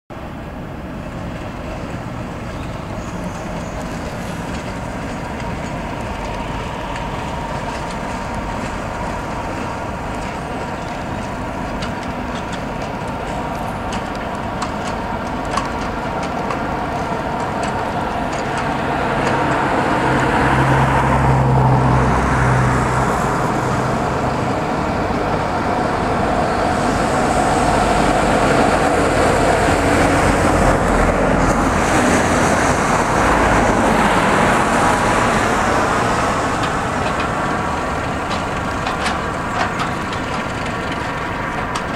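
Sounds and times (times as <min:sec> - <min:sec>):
diesel locomotive engine running: 0:00.1 - 0:41.9
wheel-on-rail noise: 0:00.1 - 0:41.9.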